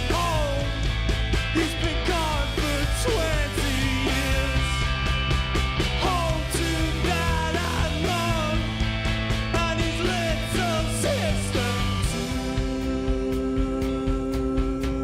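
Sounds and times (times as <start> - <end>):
synth bass line: 0.0 - 14.3
drums with cymbal hits: 0.0 - 15.0.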